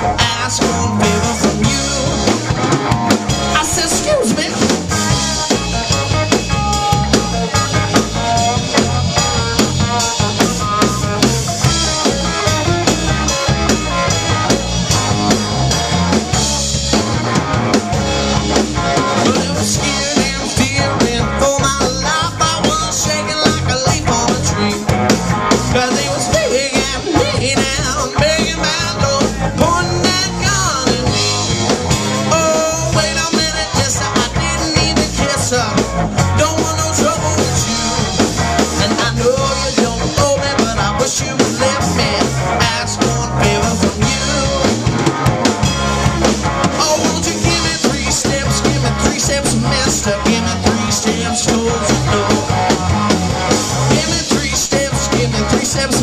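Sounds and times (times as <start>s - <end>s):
lead guitar bent notes: 0.0s - 56.0s
rock band playing: 0.0s - 56.0s.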